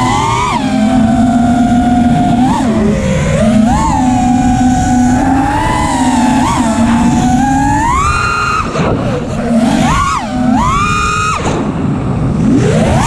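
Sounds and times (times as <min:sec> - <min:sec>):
drone motors whining: 0:00.0 - 0:13.0
rushing propeller and wind noise: 0:00.0 - 0:13.0.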